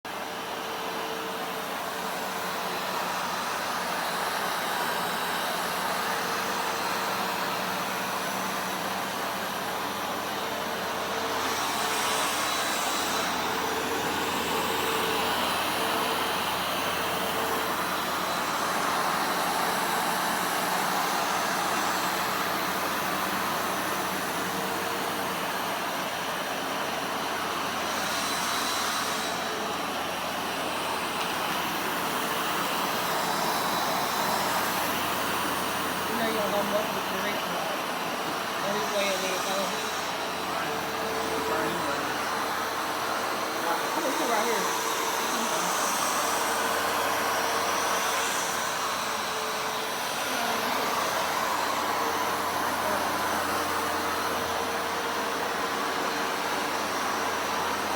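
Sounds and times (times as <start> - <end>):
vacuum cleaner running: 0.1 - 57.9.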